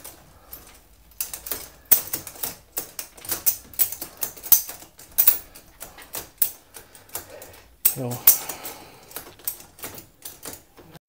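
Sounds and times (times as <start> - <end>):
massage table headrest rattling: 0.0 - 11.0.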